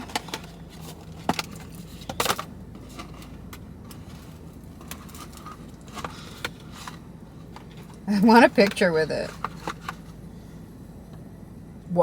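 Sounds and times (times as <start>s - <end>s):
handling clicks and rustles: 0.0s - 10.3s
steady low hum: 0.0s - 12.0s.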